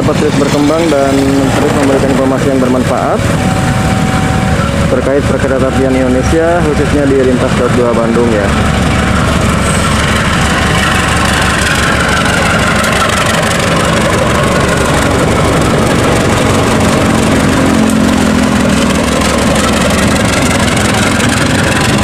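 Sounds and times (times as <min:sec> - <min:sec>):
diesel locomotives passing: 0:00.0 - 0:22.0.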